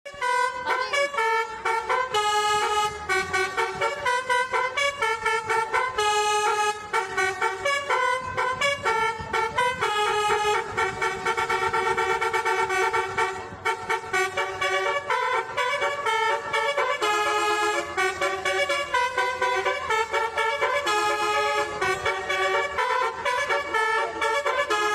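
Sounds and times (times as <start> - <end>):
bus musical horn playing tune: 0.1 - 24.9.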